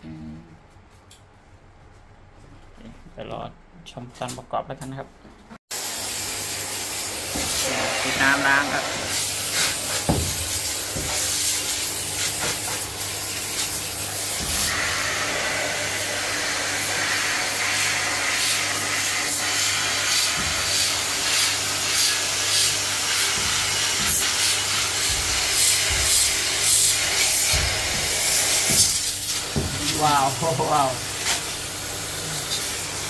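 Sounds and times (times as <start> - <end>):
water jet hissing on metal fins: 5.8 - 33.0.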